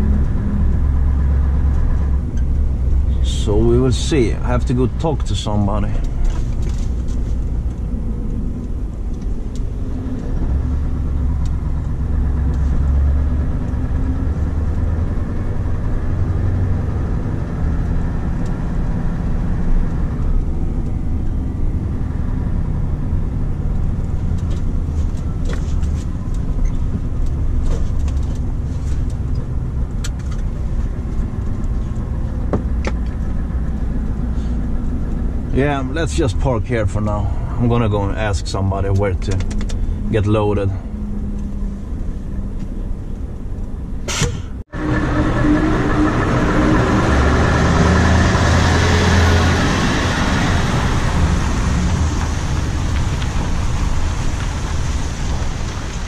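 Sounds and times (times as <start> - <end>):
diesel engine running inside cab: 0.0 - 56.0
road noise: 0.0 - 56.0.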